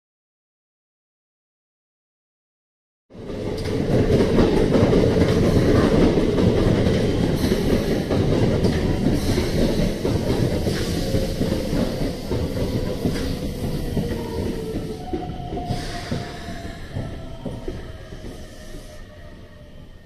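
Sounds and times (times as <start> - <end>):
train wheels rumbling on rails: 3.1 - 20.0.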